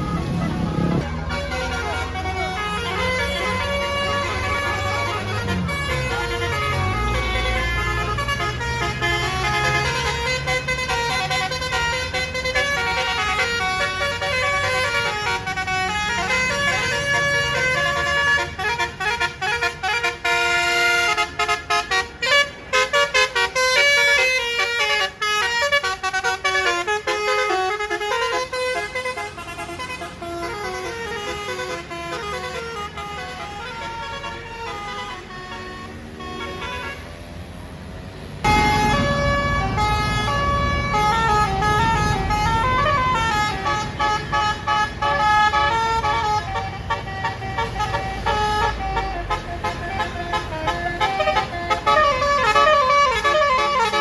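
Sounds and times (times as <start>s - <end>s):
multi-tone bus air horns: 0.0s - 37.5s, 38.1s - 54.0s
bus engine rumbling: 0.0s - 54.0s.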